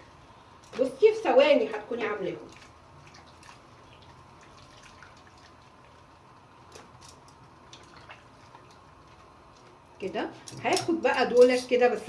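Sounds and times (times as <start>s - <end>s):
faint water dripping: 0.0s - 11.5s.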